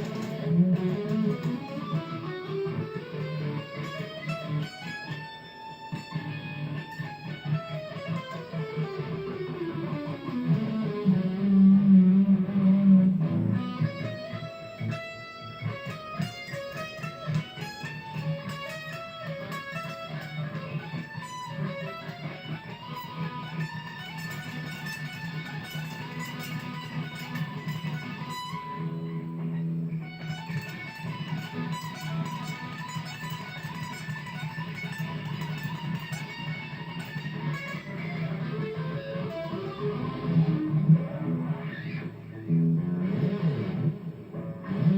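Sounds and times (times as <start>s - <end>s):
guitar notes sliding: 0.0s - 44.9s.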